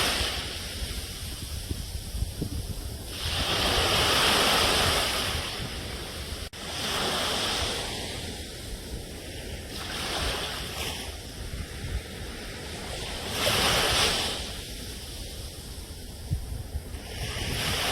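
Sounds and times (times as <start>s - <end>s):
ocean waves washing ashore: 0.0s - 17.9s.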